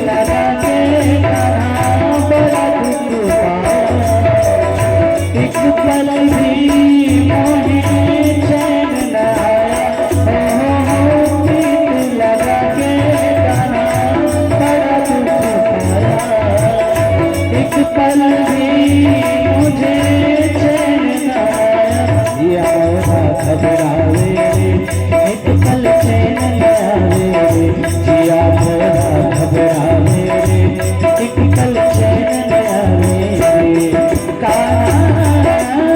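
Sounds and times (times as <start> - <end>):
fast rattling percussion: 0.0 - 35.9.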